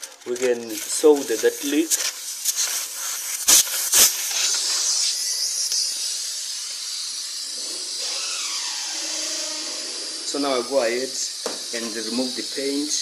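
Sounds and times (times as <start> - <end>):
pressurized air hissing: 0.0 - 13.0.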